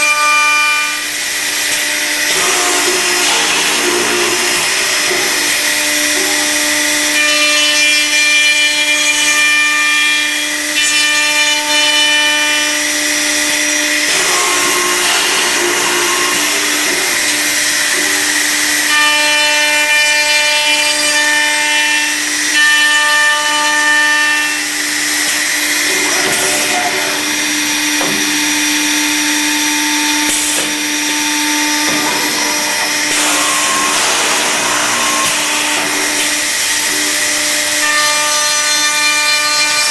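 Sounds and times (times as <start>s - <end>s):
spindle whine cutting wood: 0.0s - 39.9s
machine spindle hum: 0.1s - 9.7s, 10.3s - 39.9s.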